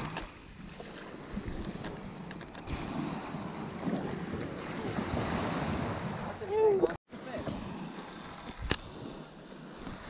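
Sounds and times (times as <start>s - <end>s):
small waves washing onto beach: 0.0s - 10.0s
wind rumbling on microphone: 0.0s - 10.0s.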